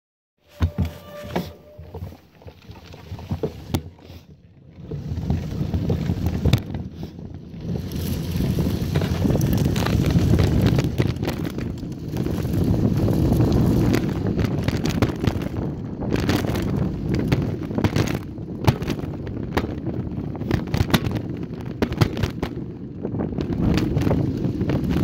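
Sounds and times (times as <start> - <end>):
bike rattles and knocks: 0.5 - 25.0
bike tyres rumbling on dirt: 0.5 - 25.0
wind buffeting microphone: 2.9 - 25.0.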